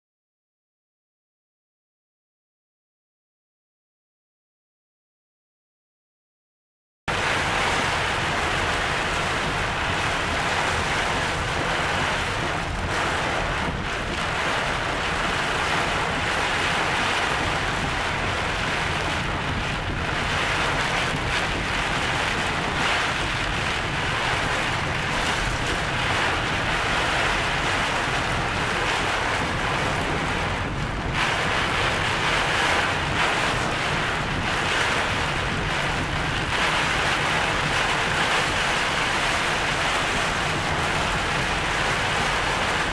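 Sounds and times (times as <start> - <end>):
heavy rain and wind on car: 7.1 - 42.9.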